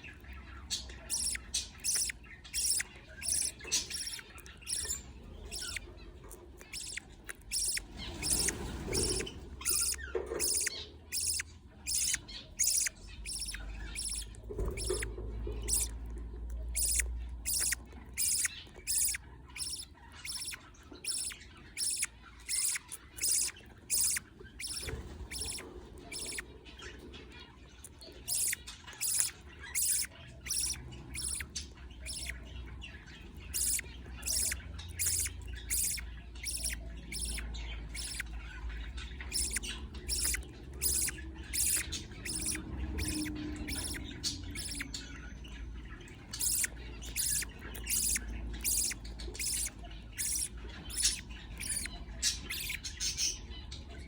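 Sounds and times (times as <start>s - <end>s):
chicks squawking begging calls: 0.8s - 27.3s, 28.0s - 45.2s, 45.9s - 53.5s.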